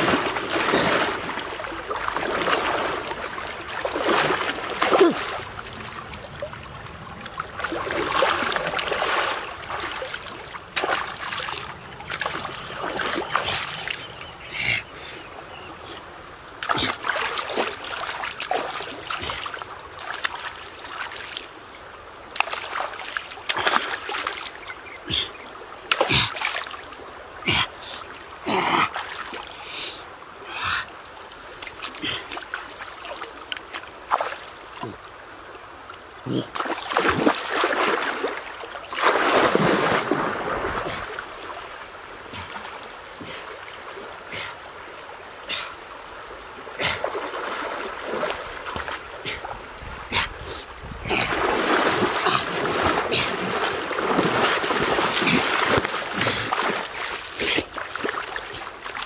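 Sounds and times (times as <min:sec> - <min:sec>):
water splashing in shallows: 0:00.0 - 0:15.3, 0:16.6 - 0:29.8, 0:30.4 - 0:35.2, 0:36.3 - 0:59.0.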